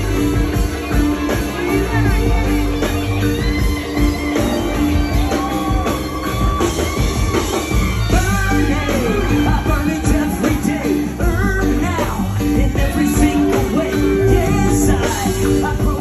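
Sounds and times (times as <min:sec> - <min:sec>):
bending electric guitar notes: 0:00.0 - 0:16.0
live rock band playing: 0:00.0 - 0:16.0.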